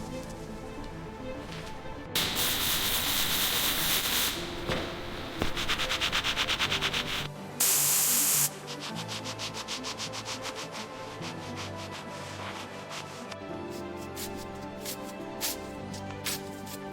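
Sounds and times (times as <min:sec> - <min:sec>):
background music: 0:00.0 - 0:16.9
hissing spray: 0:01.5 - 0:16.9
fast rhythmic rasping: 0:02.2 - 0:07.3, 0:08.5 - 0:16.9.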